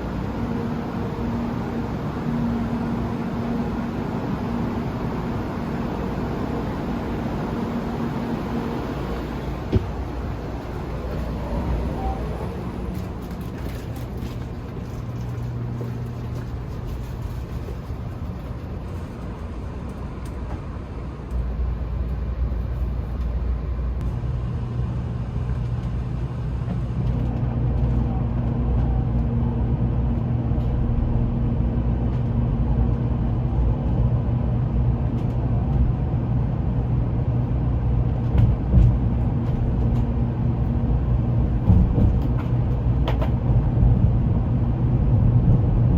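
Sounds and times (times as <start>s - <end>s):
high-speed train running: 0.0s - 45.9s.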